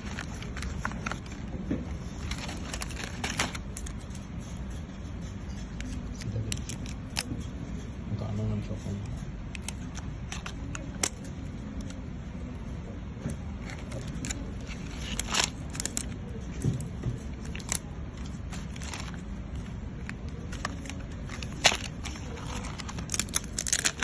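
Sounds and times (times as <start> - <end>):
packaging clicks and crinkles: 0.0 - 4.4, 5.6 - 7.6, 9.4 - 12.2, 13.3 - 24.0
low background hum: 0.0 - 24.0.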